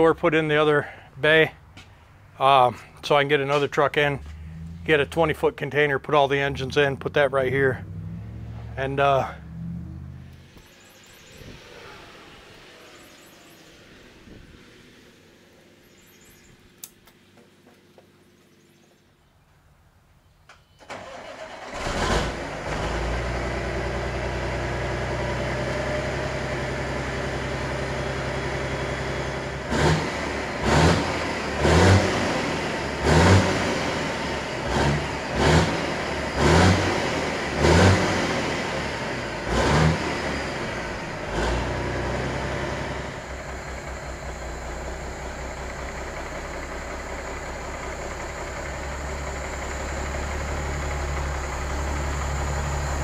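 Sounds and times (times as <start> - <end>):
diesel truck engine revving: 0.0 - 16.9, 20.9 - 53.0.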